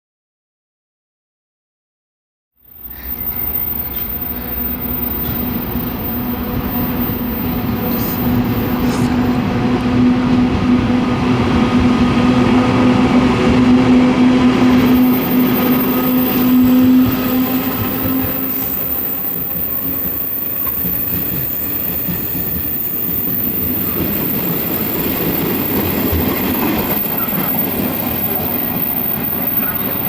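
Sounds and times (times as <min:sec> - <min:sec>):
electric locomotive hum: 0:02.7 - 0:30.0
train wheels rumbling on track: 0:02.7 - 0:30.0.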